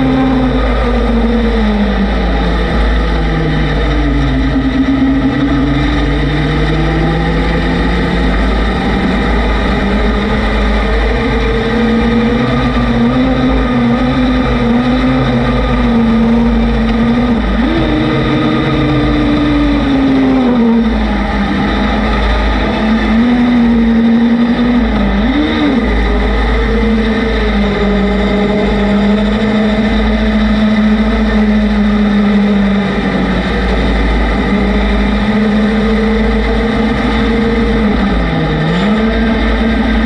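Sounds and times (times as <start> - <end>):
vehicle engine running: 0.0 - 40.0
wind rumble on microphone: 0.0 - 40.0.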